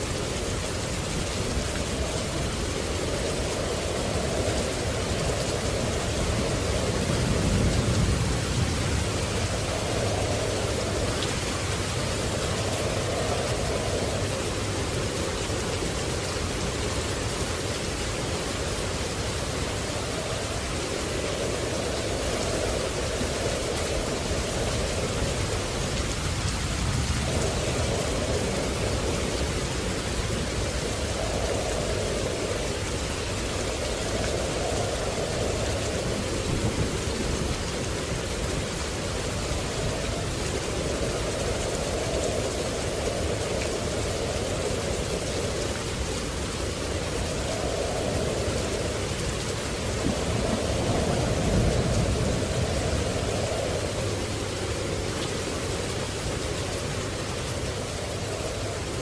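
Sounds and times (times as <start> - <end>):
low roll of thunder: 0.0 - 59.0
steady rain: 0.0 - 59.0.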